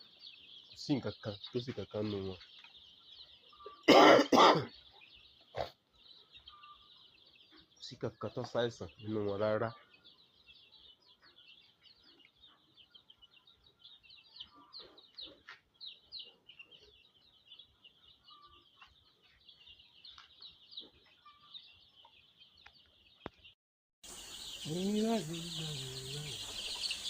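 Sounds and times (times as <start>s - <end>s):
chicks cheeping: 0.0s - 27.0s.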